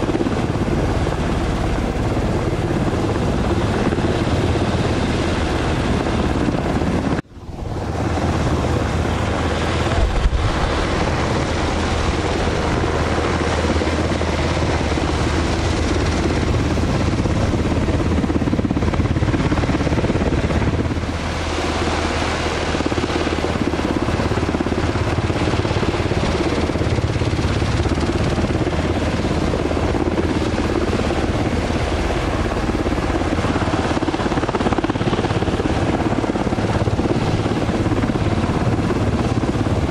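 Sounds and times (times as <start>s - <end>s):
helicopter rotor beat: 0.0s - 39.9s
helicopter turbine noise: 0.0s - 39.9s.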